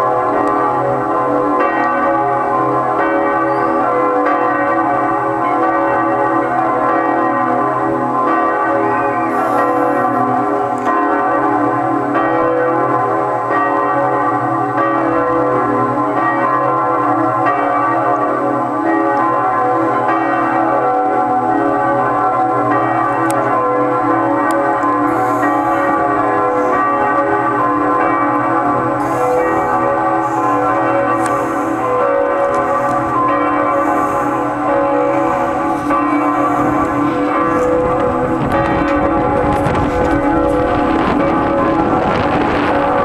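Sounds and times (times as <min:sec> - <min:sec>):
large church bells ringing: 0:00.0 - 0:43.0.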